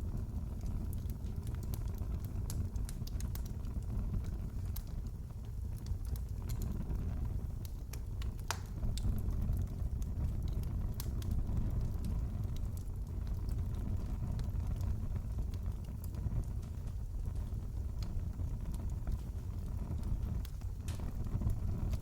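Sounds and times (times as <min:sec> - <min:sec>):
fireplace fire crackling and popping: 0:00.0 - 0:22.0.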